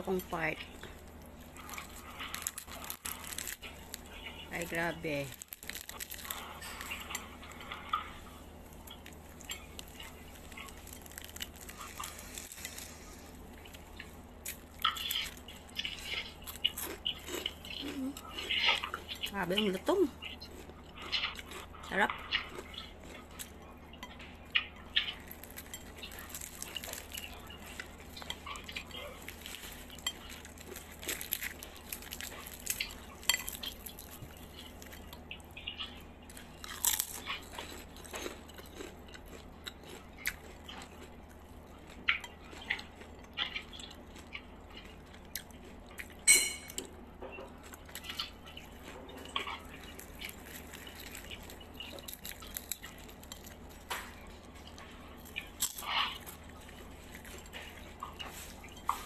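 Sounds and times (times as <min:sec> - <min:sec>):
chewing crispy fried chicken: 0:00.0 - 0:59.0.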